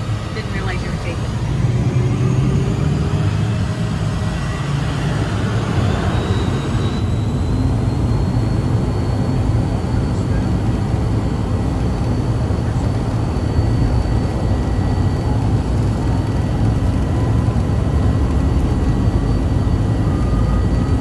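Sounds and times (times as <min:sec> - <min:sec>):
high turbine whine: 0:00.0 - 0:21.0
jet engines rumbling: 0:00.0 - 0:21.0.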